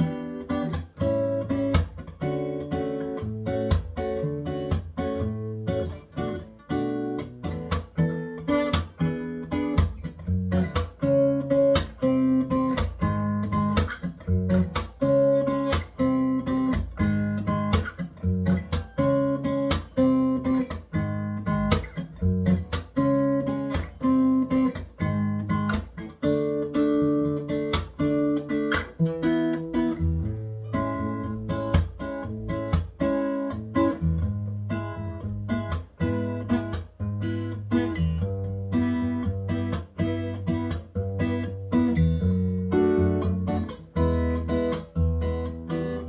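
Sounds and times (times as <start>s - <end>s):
acoustic guitar bossa nova rhythm: 0.0s - 46.0s.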